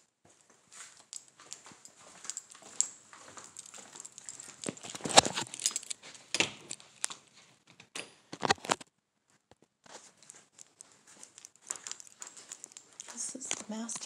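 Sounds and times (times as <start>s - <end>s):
footsteps: 0.2s - 7.6s, 9.6s - 14.0s.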